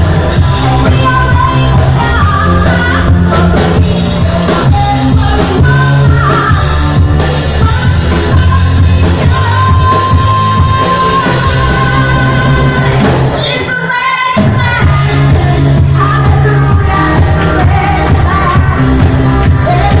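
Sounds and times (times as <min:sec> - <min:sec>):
live disco-pop music with singing: 0:00.0 - 0:20.0.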